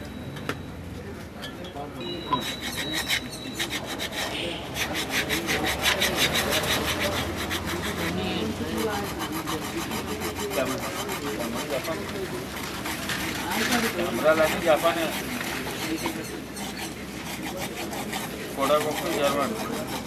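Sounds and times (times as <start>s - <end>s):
knife scraping on whetstone: 2.3s - 20.0s.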